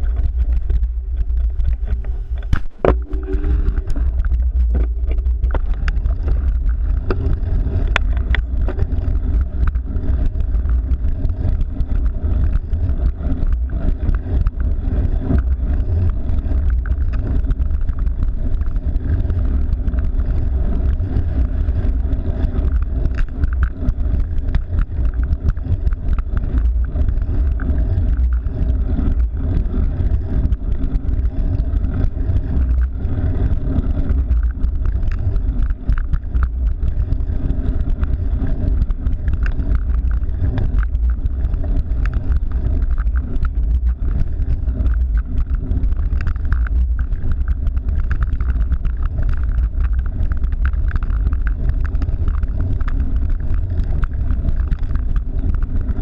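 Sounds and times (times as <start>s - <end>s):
bike rattles and ticks: 0.0s - 56.0s
wind and road rumble: 0.0s - 56.0s.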